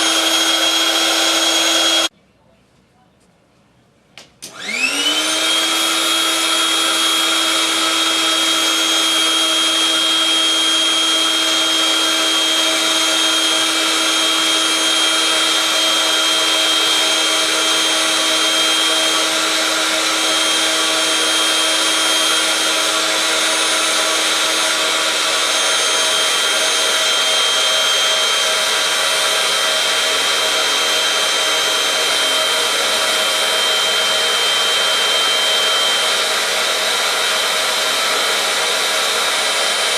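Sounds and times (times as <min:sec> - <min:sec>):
electric air pump running: 0:00.0 - 0:02.1, 0:04.4 - 0:39.9.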